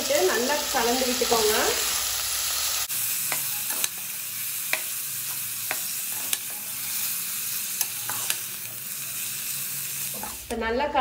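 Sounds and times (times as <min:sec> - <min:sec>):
food sizzling in oil: 0:00.0 - 0:10.8.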